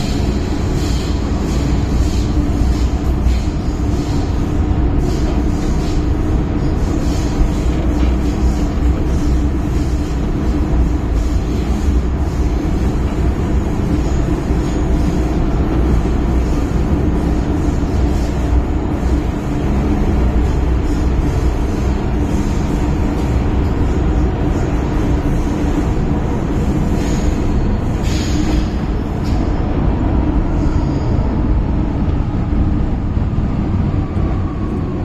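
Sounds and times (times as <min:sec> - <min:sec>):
constant hum: 0:00.0 - 0:35.0
train wheels rumbling on rail: 0:00.0 - 0:35.0.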